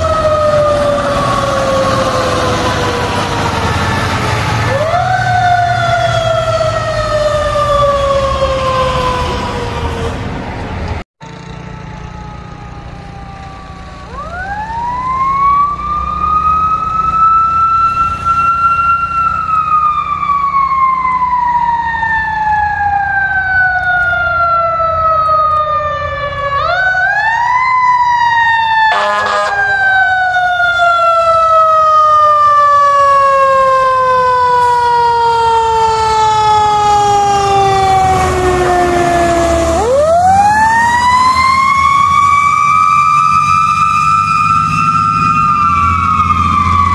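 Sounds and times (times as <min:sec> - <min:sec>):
mechanical siren wailing: 0:00.0 - 0:10.5, 0:11.3 - 0:46.9
truck engine running low: 0:00.0 - 0:46.9.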